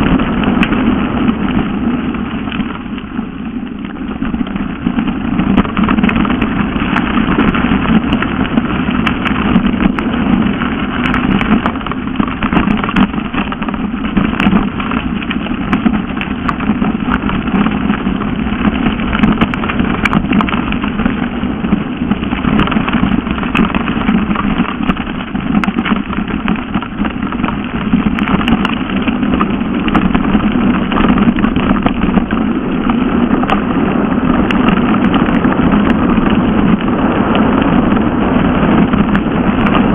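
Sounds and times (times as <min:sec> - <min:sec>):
bike rattling and knocking: 0:00.0 - 0:39.9
bike tyres rumbling on gravel: 0:00.0 - 0:39.9.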